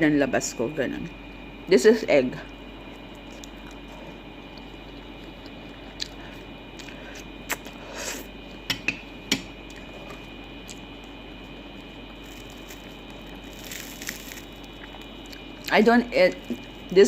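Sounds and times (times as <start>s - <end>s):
steady room hum: 0.0s - 17.0s
soft eating sounds: 2.3s - 8.7s, 9.6s - 17.0s.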